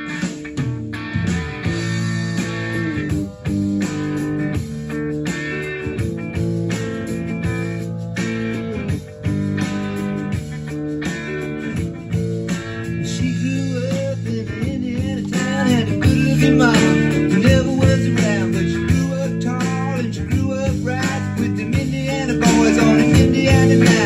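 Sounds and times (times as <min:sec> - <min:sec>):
song with guitar through speaker: 0:00.0 - 0:24.0.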